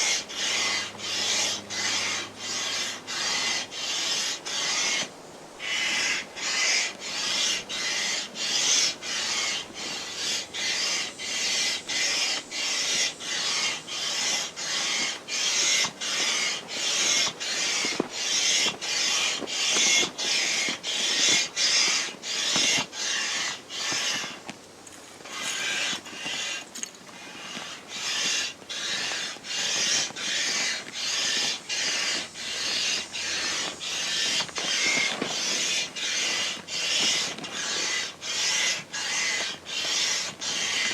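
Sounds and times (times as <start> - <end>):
manual air pump hissing: 0.0 - 40.9.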